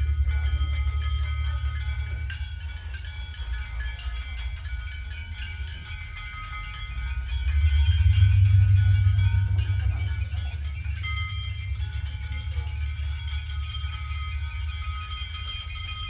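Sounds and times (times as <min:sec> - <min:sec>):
deep low drone: 0:00.0 - 0:16.0
high ringing tones: 0:00.0 - 0:16.0
light metallic tinkling: 0:00.0 - 0:16.0.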